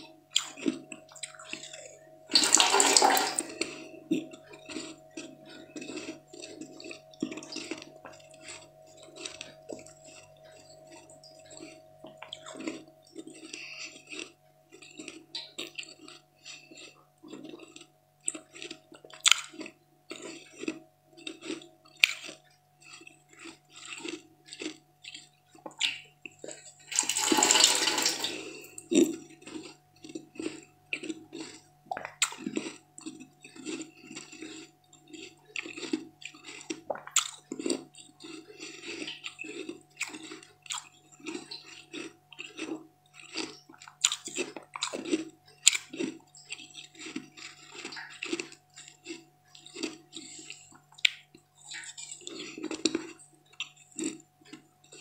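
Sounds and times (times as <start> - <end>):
faint steady hum: 0.0 - 55.0
wet chewing and mouth sounds: 0.0 - 55.0.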